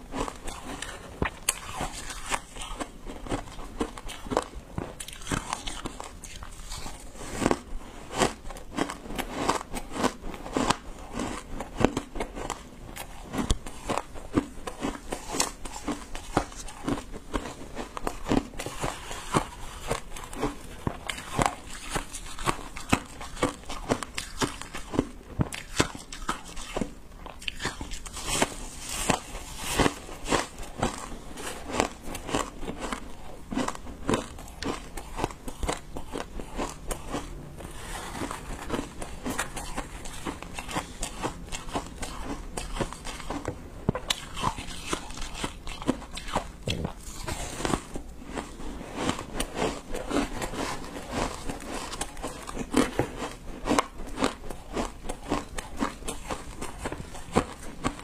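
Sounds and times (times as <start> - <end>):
person chewing shaved ice: 0.0 - 58.0.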